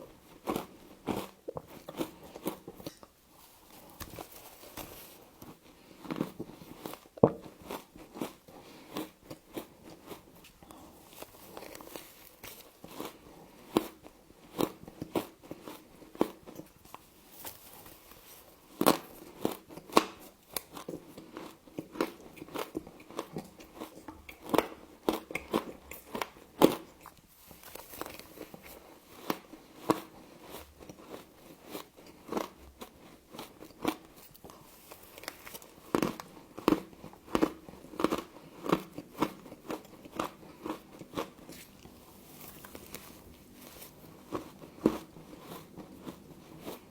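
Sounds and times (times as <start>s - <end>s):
crunching and chewing frost: 0.0s - 46.9s.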